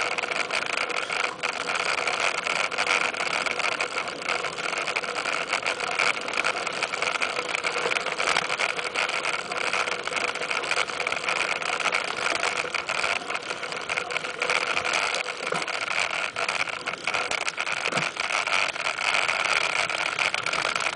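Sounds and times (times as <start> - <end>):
bike rattling and knocking: 0.0 - 20.9.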